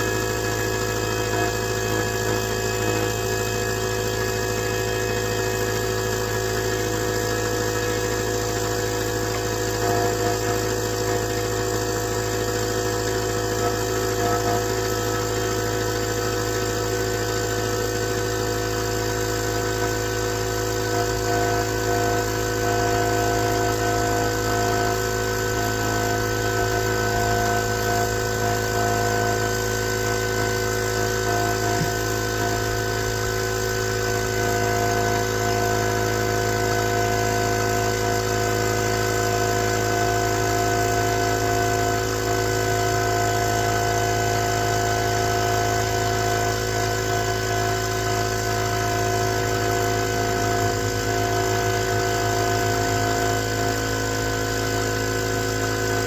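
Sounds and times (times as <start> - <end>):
motor humming steadily: 0.0 - 56.0.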